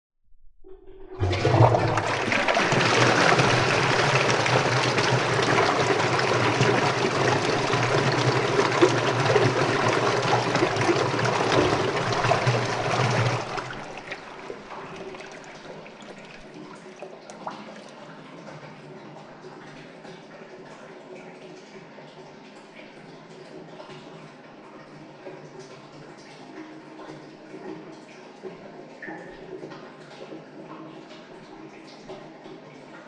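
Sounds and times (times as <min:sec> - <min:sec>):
toilet flushing: 0:00.8 - 0:33.0.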